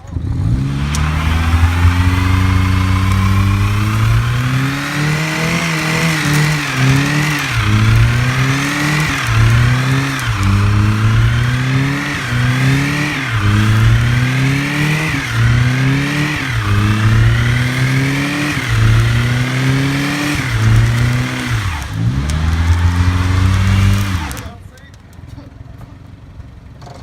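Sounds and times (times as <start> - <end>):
car engine revving: 0.0 - 24.6.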